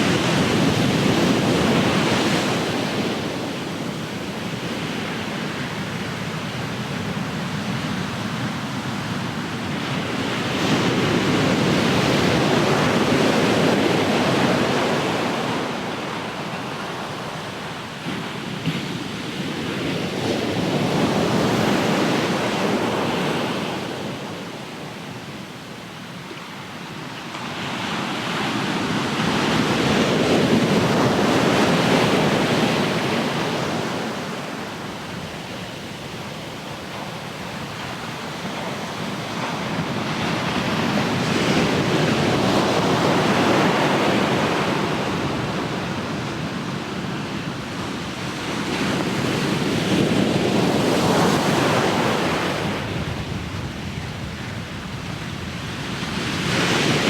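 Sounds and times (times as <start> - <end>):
ocean surf washing in and out: 0.0 - 57.0.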